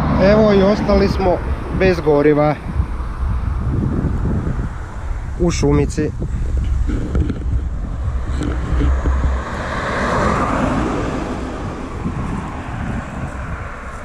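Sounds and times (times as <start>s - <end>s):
deep rumble: 0.0s - 13.9s
vehicle passing on road: 0.0s - 14.0s.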